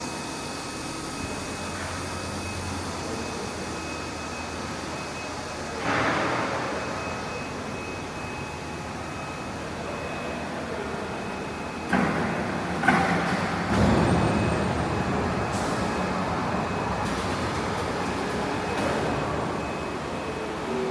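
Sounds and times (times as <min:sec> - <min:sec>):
steady machine noise: 0:00.0 - 0:20.9.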